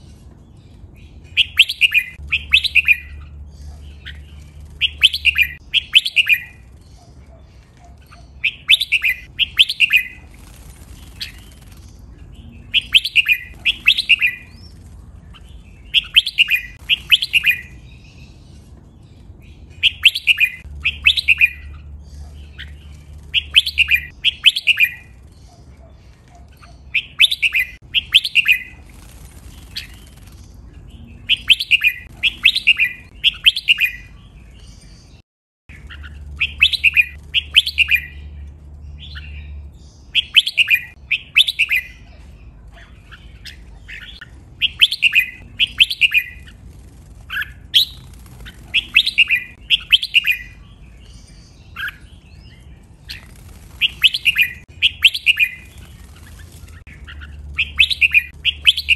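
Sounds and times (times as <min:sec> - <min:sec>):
birds singing: 0:00.0 - 0:58.9.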